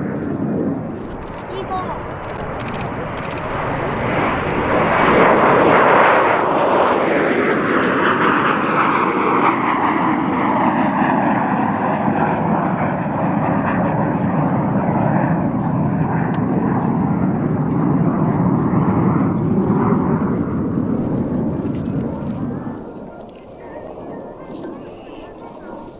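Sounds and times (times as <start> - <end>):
jet aircraft taking off: 0.0 - 25.9.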